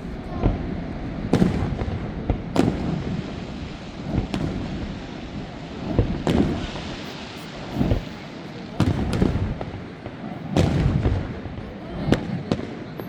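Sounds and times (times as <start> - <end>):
fireworks bangs echoing: 0.0 - 13.0.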